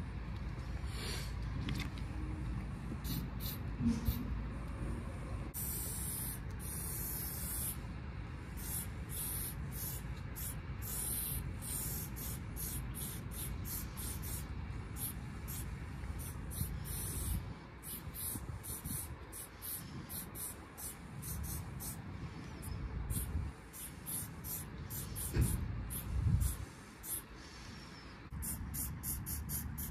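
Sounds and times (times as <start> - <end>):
spray paint can hissing: 3.0 - 4.3, 5.6 - 7.8, 8.4 - 29.9.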